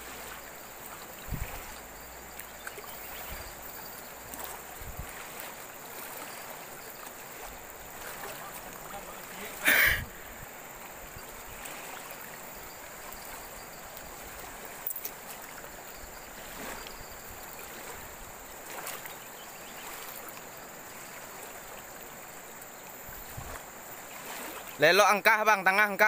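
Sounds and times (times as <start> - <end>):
river current rushing: 0.0 - 26.0.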